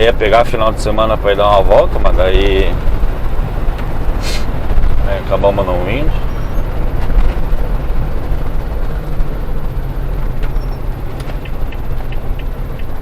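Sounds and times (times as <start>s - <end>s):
engine and road rumble inside vehicle: 0.0s - 13.0s.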